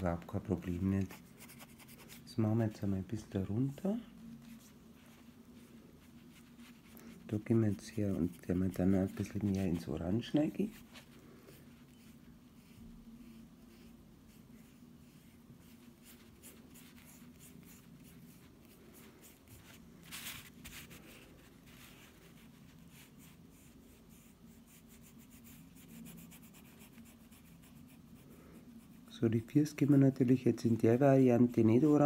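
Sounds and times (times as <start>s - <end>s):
paintbrush strokes on wood: 0.0s - 32.0s.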